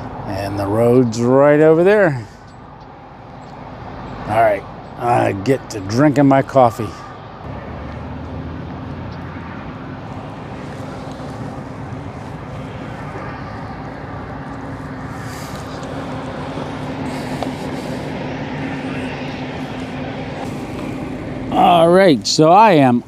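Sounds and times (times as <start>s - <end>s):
power plant machinery drone: 0.0s - 23.0s.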